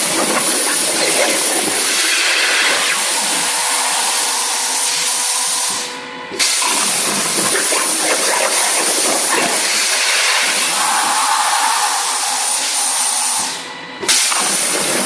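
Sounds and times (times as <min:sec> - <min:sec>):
plasma arc hissing: 0:00.0 - 0:15.0.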